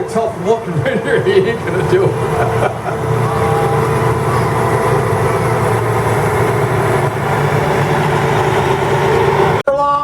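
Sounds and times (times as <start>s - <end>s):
truck engine running steadily: 0.0s - 9.6s.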